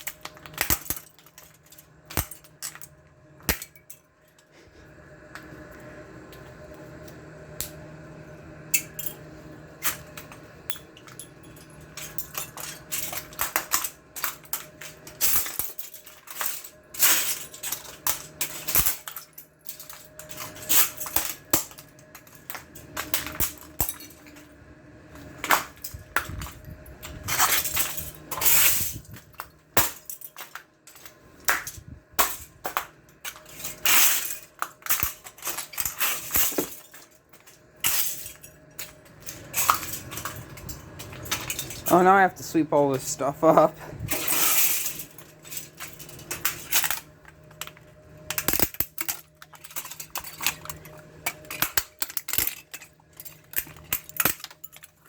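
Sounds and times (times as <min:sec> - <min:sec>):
plastic shards clattering on floor: 0:00.0 - 0:04.4, 0:09.8 - 0:24.5, 0:25.1 - 0:42.0, 0:43.0 - 0:55.0.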